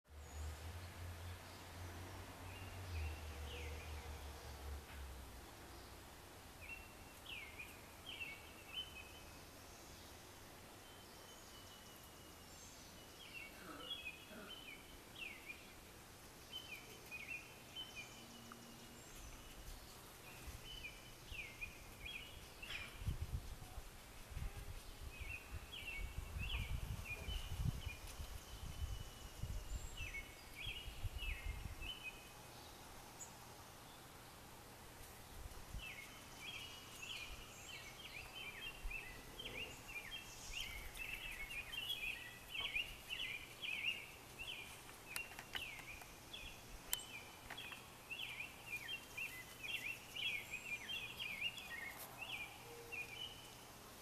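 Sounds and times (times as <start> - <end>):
outdoor background noise: 0.0 - 54.0
songbird chirping: 0.1 - 54.0.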